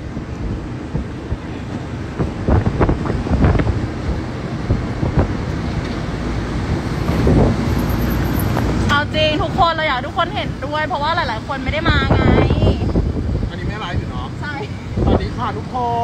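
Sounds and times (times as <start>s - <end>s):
wind buffeting microphone: 0.0s - 15.6s
road rumble: 0.0s - 16.0s
tuk-tuk engine: 0.0s - 16.0s.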